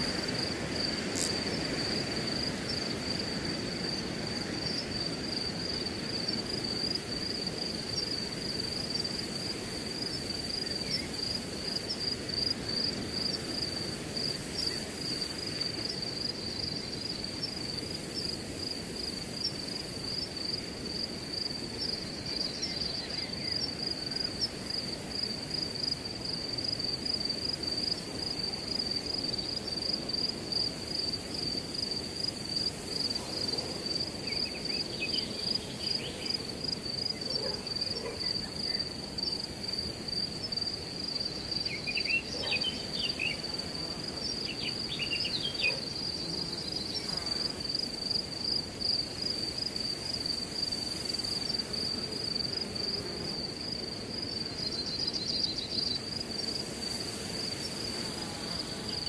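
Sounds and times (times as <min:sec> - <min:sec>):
crickets chirping: 0:00.0 - 0:59.0
wind through grass: 0:00.0 - 0:59.0.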